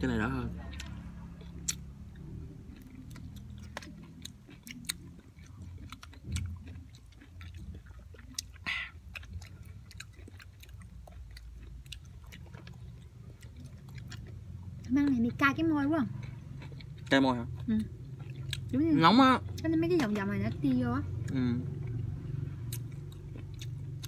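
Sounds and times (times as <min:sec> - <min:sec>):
person chewing: 0:00.2 - 0:19.7, 0:21.1 - 0:24.0.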